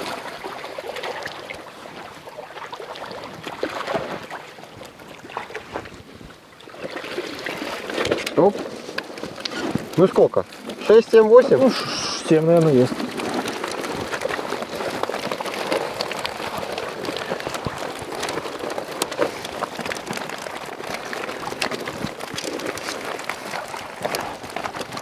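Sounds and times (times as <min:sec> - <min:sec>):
fish flapping in net: 0:00.0 - 0:05.7, 0:06.7 - 0:25.0
water pattering: 0:00.0 - 0:25.0.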